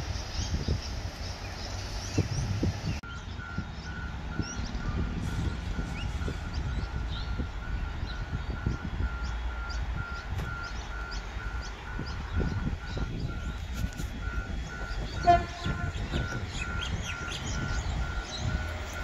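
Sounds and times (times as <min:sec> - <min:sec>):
birds chirping: 0:00.0 - 0:19.0
level crossing alarm beeping: 0:03.0 - 0:19.0.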